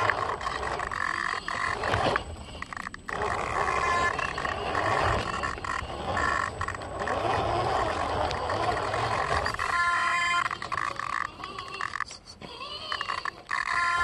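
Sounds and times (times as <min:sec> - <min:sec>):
electric motor and gears whining: 0:00.0 - 0:14.0
rough grinding noise: 0:00.0 - 0:14.0.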